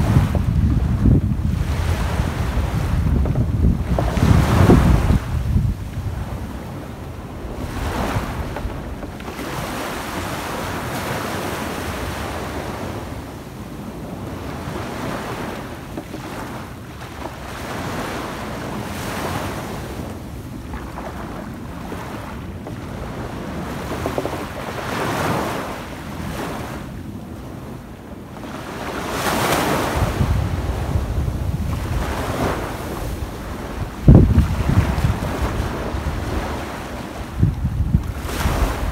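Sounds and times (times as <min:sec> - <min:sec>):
waves washing on sandy beach: 0:00.0 - 0:38.9
wind buffeting microphone: 0:00.0 - 0:38.9.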